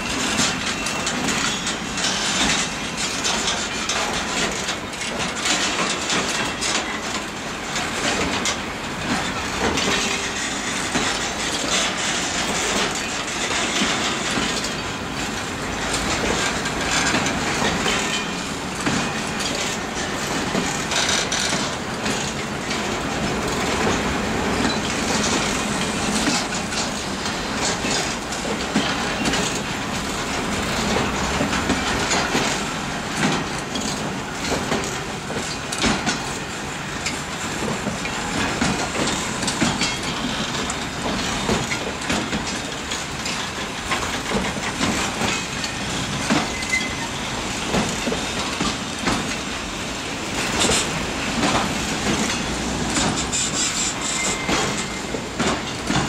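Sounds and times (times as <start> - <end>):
freight train wagons rattling: 0.0 - 56.0
wheel clicks over rail joints: 0.1 - 56.0.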